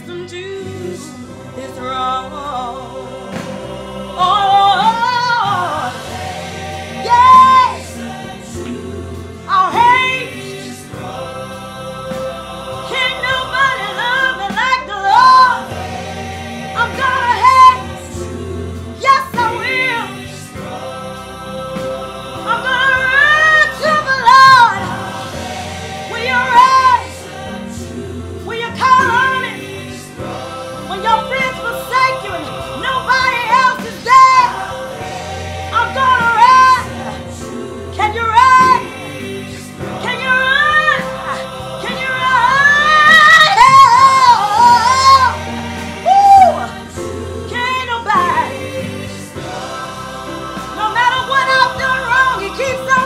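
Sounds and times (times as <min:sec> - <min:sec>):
woman singing gospel: 0:00.0 - 0:11.5, 0:12.8 - 0:20.8, 0:21.8 - 0:53.0
accompanying music: 0:00.0 - 0:53.0.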